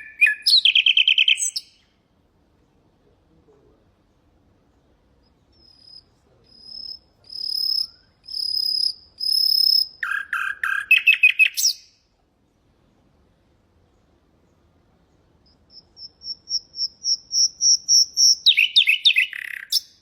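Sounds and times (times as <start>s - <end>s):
nightingale singing: 0.0s - 2.0s, 4.0s - 12.6s, 13.8s - 20.0s.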